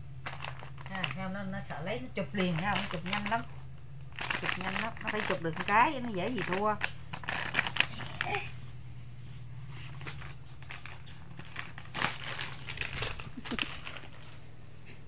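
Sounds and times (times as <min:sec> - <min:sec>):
electric fan humming: 0:00.0 - 0:15.0
plastic bag crinkling: 0:00.2 - 0:08.5, 0:09.8 - 0:14.4.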